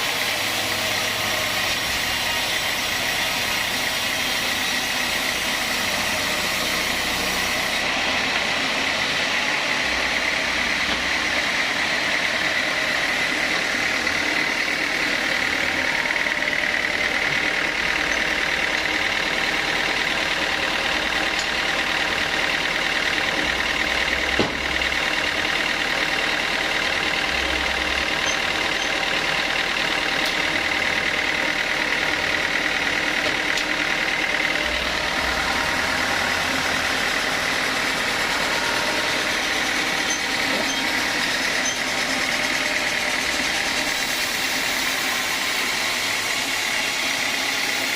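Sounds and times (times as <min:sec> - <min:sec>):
sawmill saw running: 0:00.0 - 0:47.9.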